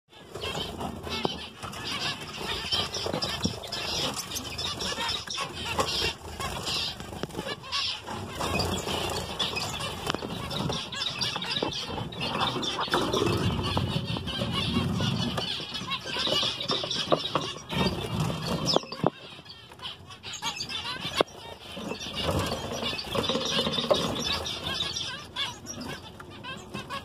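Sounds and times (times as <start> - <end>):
finches chattering: 0.1 - 27.0
wings fluttering: 0.2 - 19.9, 20.8 - 27.0.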